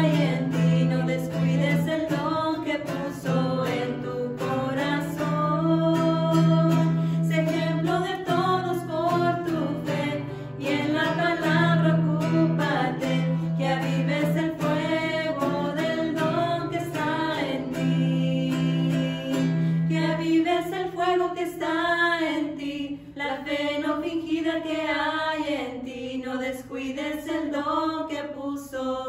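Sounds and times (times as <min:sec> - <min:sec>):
acoustic guitar: 0:00.0 - 0:29.0
women singing worship song: 0:00.0 - 0:29.0.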